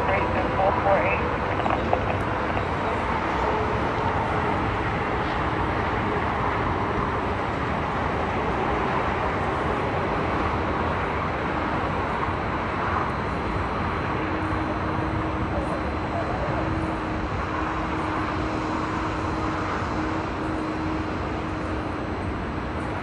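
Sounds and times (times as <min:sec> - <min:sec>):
highway traffic rushing: 0:00.0 - 0:23.0.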